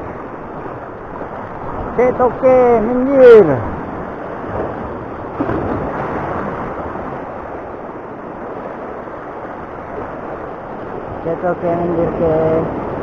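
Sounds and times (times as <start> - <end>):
waves breaking over rocks: 0.0 - 13.0.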